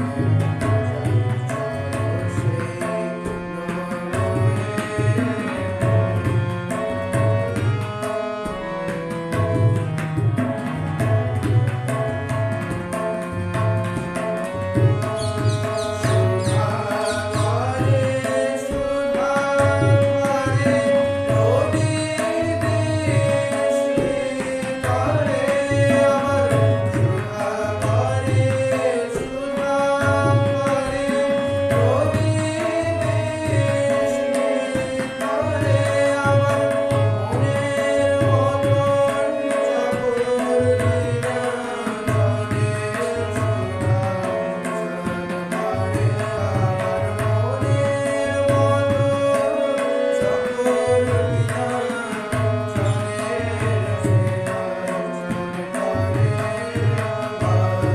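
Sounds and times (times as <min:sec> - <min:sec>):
man singing: 0:00.0 - 0:10.0, 0:10.9 - 0:57.9
harmonium notes: 0:00.0 - 0:57.9
tabla drumming: 0:00.0 - 0:57.9.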